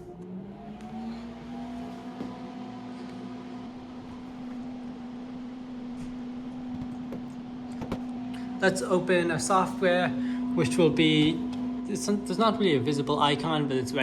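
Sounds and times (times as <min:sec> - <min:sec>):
machine hum with fan whir: 0:00.0 - 0:14.0.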